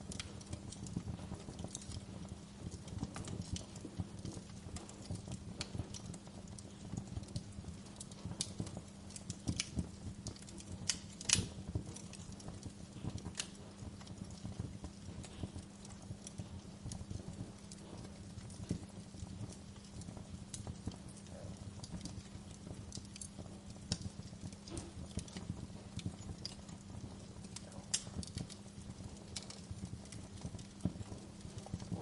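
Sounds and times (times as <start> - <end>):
steady low hum: 0.0 - 32.0
wood fire crackling and popping: 0.0 - 32.0.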